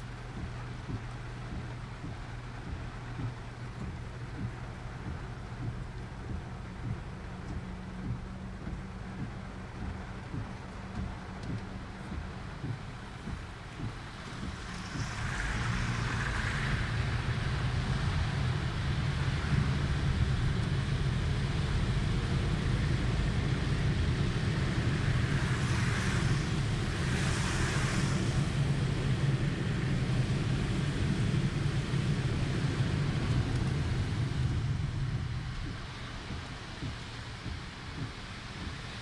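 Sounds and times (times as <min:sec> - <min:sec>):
engine and road rumble: 0:00.0 - 0:39.0
heavy rain and tyre spray hiss: 0:00.0 - 0:39.0.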